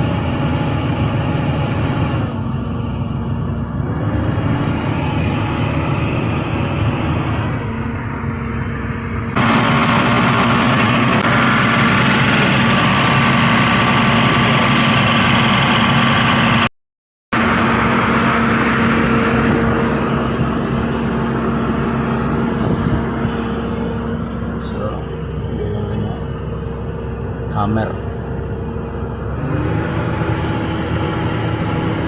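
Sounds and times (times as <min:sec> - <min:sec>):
excavator diesel engine running: 0:00.0 - 0:16.7, 0:17.3 - 0:32.0.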